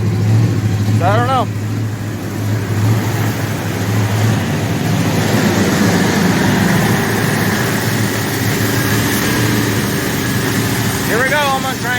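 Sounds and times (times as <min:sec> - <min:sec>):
truck engine fast idling: 0:00.0 - 0:11.9.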